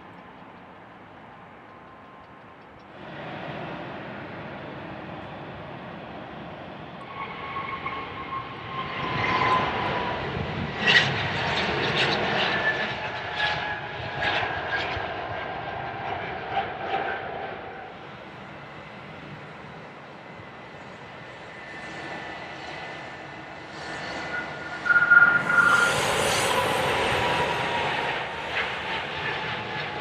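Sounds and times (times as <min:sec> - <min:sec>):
jet engine whine: 0:00.0 - 0:30.0
jet airliner taking off: 0:02.9 - 0:30.0.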